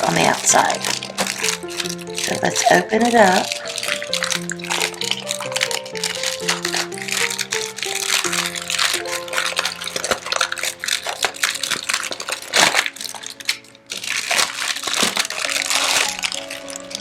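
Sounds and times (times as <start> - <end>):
packaging crinkling: 0.0 - 17.0
soft background music: 0.0 - 17.0.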